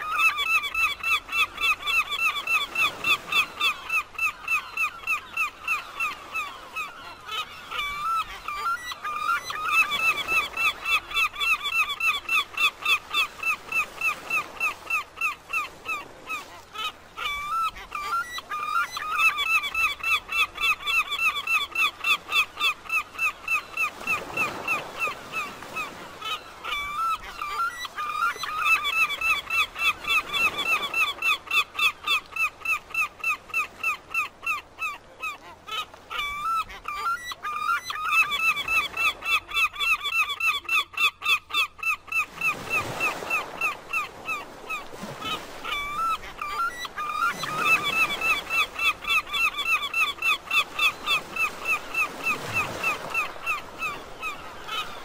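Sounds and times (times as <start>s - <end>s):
gulls calling: 0.0s - 55.0s.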